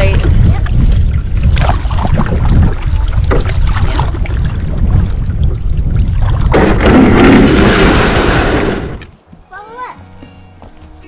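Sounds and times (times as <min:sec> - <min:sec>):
water splashing around canoe: 0:00.0 - 0:09.1
wind rumble on microphone: 0:00.0 - 0:09.1.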